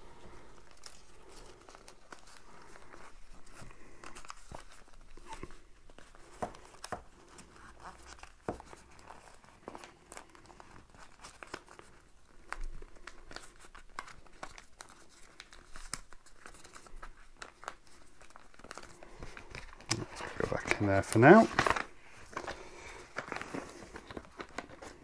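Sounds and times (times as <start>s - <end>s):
paper rustling and crinkling: 0.0s - 25.0s.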